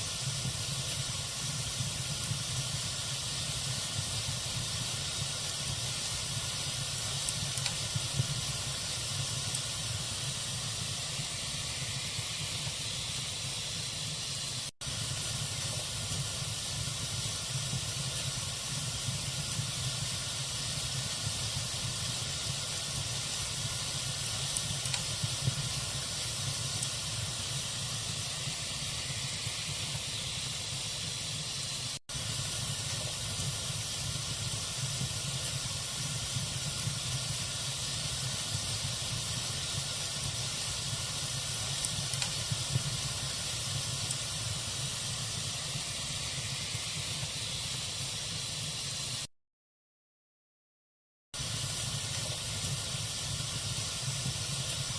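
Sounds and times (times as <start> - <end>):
log fire hissing and crackling: 0.0 - 49.3, 51.4 - 54.9.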